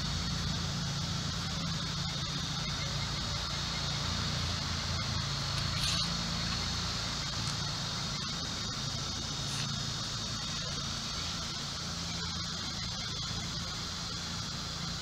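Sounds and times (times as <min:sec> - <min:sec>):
constant high hum: 0:00.0 - 0:15.0.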